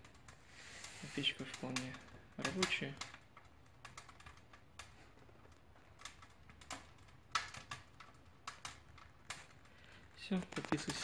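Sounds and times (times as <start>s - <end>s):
wood fire crackling in stove: 0.0s - 11.0s.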